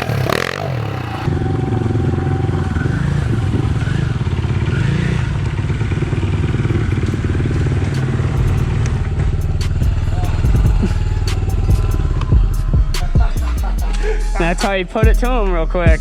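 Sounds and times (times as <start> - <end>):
pit bike engine revving: 0.0 - 16.0.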